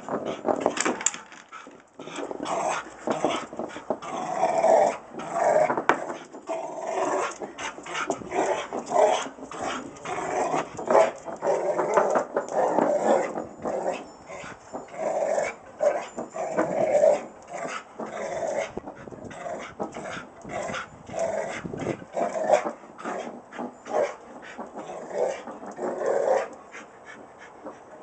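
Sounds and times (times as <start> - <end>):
rock scraping on concrete: 0.0 - 26.5.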